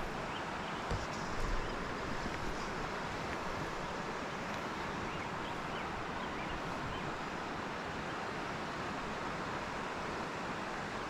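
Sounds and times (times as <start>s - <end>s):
mountain creek rushing: 0.0s - 11.0s.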